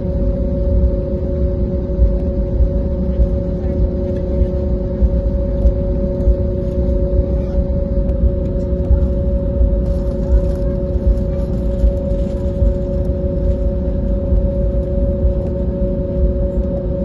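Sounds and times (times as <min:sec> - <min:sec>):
jet engines humming at idle: 0:00.0 - 0:17.0
low cabin rumble: 0:00.0 - 0:17.0.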